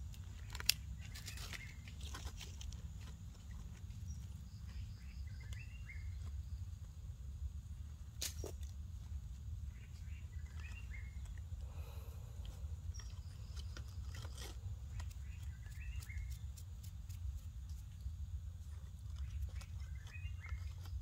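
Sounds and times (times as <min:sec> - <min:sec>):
leaves and twigs crackling: 0:00.0 - 0:06.6, 0:08.1 - 0:21.0
steady low rumble: 0:00.0 - 0:20.8.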